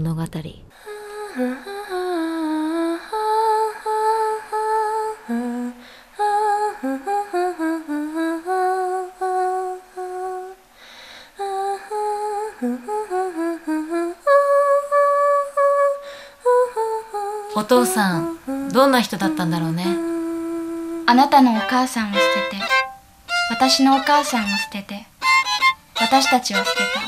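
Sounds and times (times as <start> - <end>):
woman humming a tune: 0.8 - 10.6, 11.4 - 27.0.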